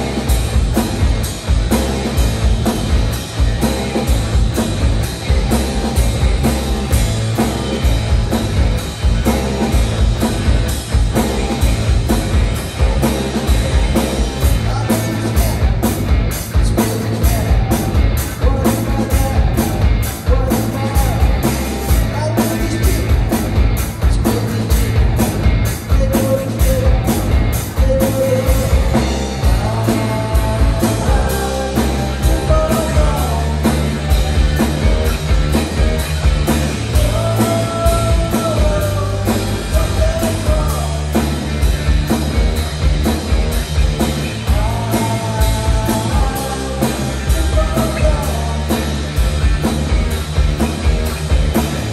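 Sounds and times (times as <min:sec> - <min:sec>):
bass guitar: 0:00.0 - 0:51.9
drum kit: 0:00.0 - 0:51.9
electric guitar: 0:00.0 - 0:51.9.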